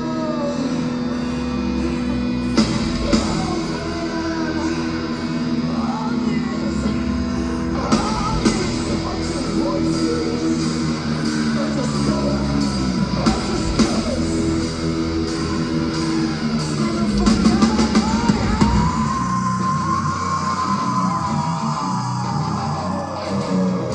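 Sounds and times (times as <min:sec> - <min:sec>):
drum kit: 0:00.0 - 0:23.9
electric guitars: 0:00.0 - 0:23.9
person singing: 0:00.0 - 0:23.9.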